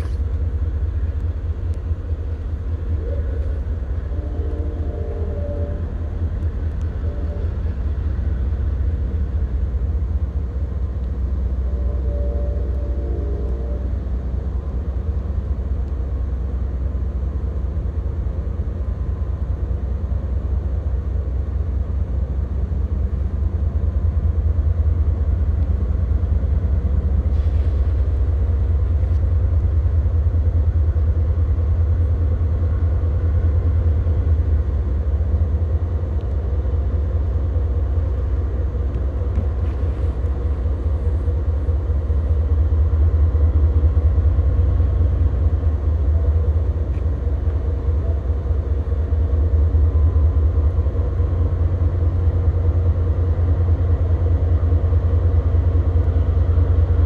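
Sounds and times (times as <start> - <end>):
diesel locomotives rumbling: 0.0 - 57.0.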